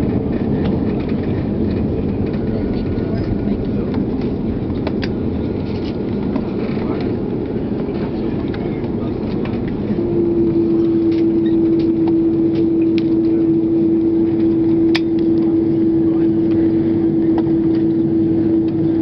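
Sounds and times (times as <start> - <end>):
low cabin rumble: 0.0 - 19.0
steady hum: 0.0 - 19.0.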